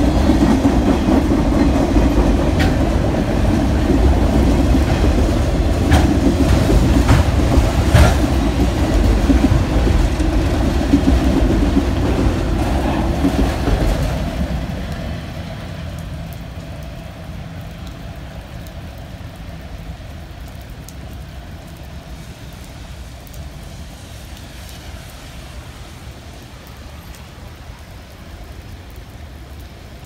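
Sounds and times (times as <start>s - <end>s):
freight train rolling rumble: 0.0s - 30.0s
rain patter: 0.0s - 30.0s.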